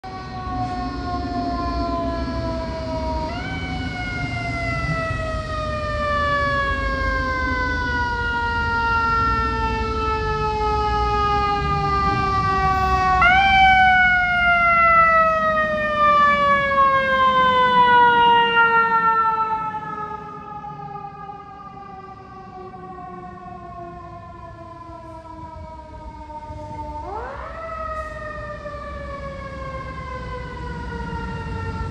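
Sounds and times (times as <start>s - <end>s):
fire truck siren: 0.0s - 31.9s
low road rumble: 0.0s - 31.9s.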